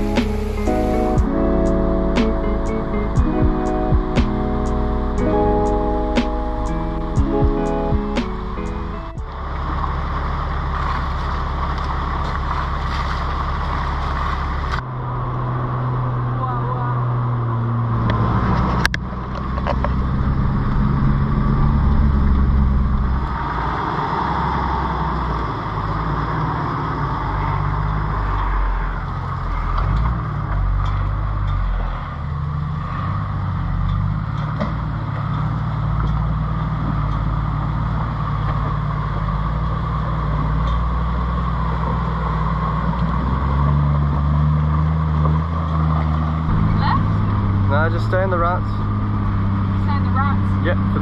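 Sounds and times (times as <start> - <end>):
vehicle engine driving: 0.0 - 51.0.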